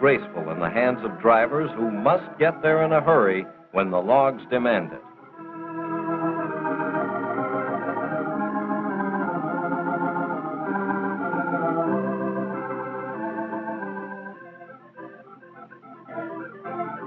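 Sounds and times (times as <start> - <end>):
sustained chord music: 0.0 - 17.0.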